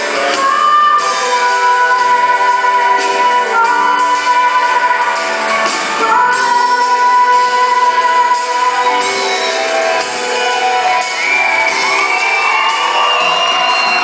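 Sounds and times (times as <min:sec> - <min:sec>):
live band playing pop ballad: 0:00.0 - 0:14.0.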